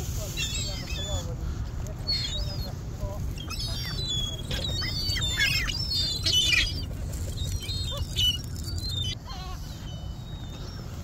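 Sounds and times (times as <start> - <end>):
gulls calling: 0.2 - 11.0.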